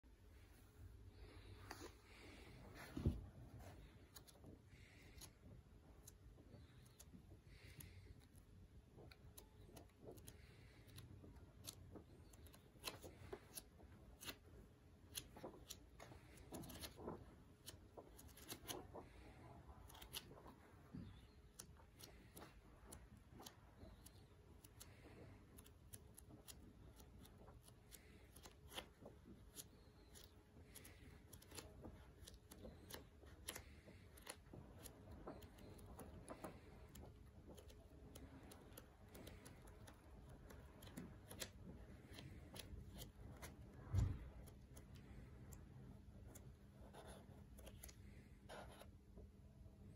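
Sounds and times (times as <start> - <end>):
book pages turning: 1.4 - 45.6.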